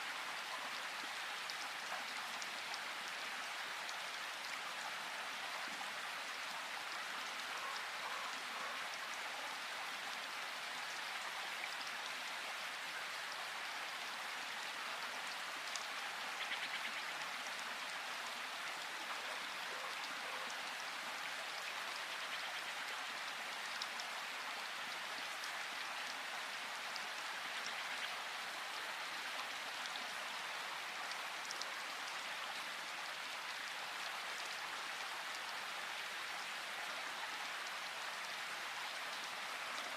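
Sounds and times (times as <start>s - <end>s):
rain hissing in forest: 0.0s - 39.9s.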